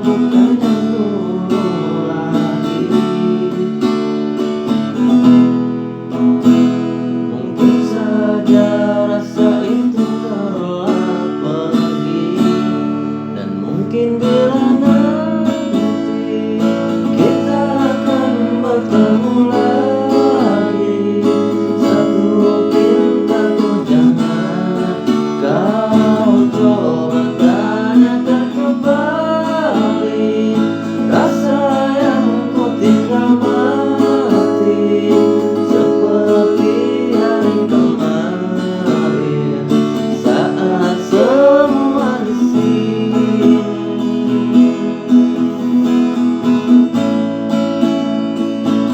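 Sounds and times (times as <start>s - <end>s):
strummed acoustic guitar: 0.0s - 48.9s.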